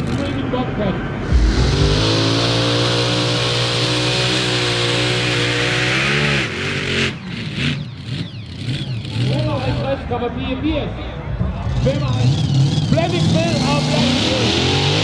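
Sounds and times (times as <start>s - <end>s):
high-revving tractor engine: 0.0s - 10.2s, 11.5s - 15.0s.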